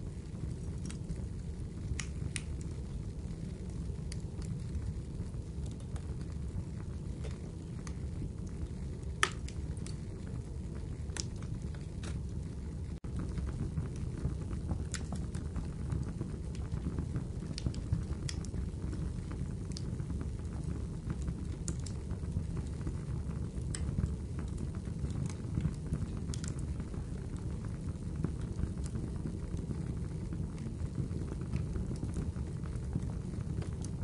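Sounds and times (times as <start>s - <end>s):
fire crackling and popping: 0.0s - 34.0s
steady low rumble: 0.0s - 34.0s.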